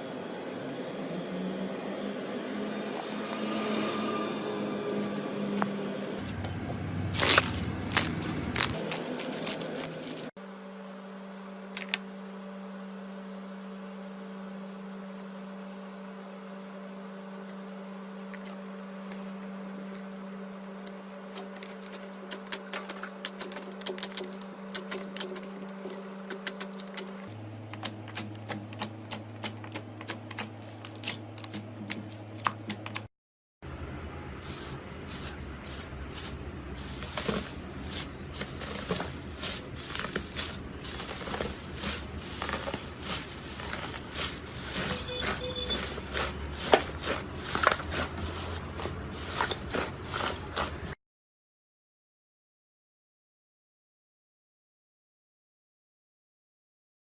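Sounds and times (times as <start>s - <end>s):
steady low hum: 0.0s - 32.9s, 33.6s - 51.0s.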